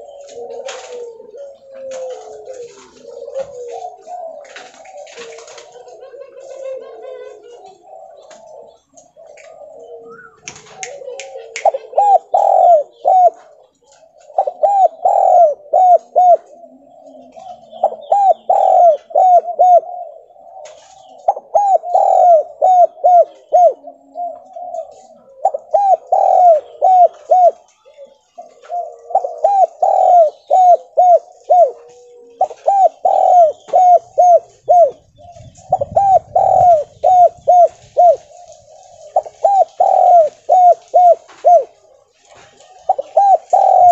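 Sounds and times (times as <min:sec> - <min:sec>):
dove cooing: 0:00.0 - 0:43.9
small birds chirping: 0:00.0 - 0:43.9.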